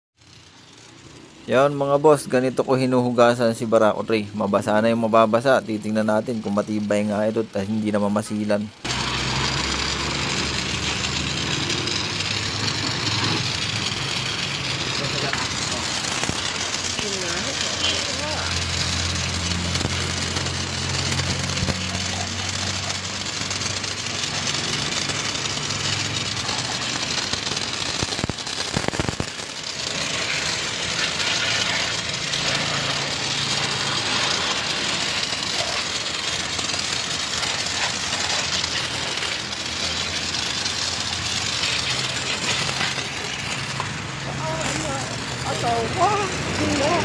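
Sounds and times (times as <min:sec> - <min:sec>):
pressure washer jet hissing: 0:00.2 - 0:47.0
washer motor and pump humming: 0:00.2 - 0:47.0
sharp clattering clicks: 0:08.8 - 0:47.0.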